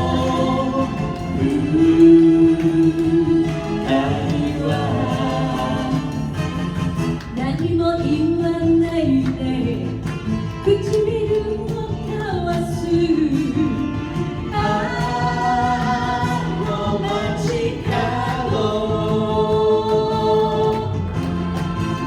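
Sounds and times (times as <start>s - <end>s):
vocals holding long notes: 0.0s - 10.0s, 10.8s - 22.0s
band backing: 0.0s - 22.0s.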